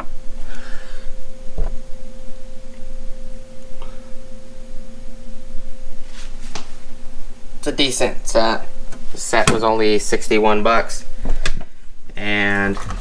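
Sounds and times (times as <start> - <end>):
steady two-tone hum: 0.0 - 13.0.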